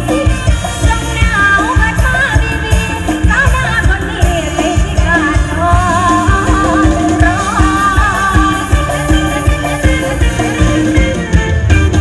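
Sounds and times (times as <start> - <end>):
woman singing: 0.0 - 9.7
electric band backing: 0.0 - 12.0
pounding drum beat: 0.0 - 12.0.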